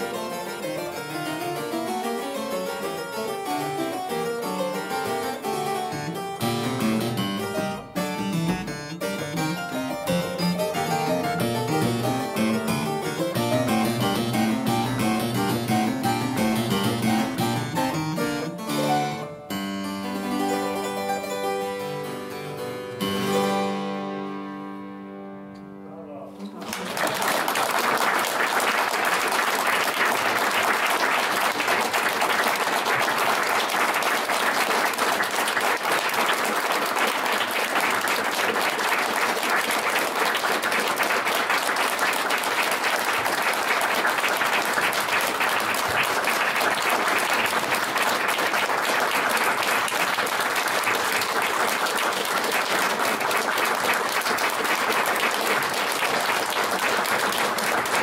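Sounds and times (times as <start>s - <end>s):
audience applauding: 4.2s - 19.2s, 26.6s - 58.0s.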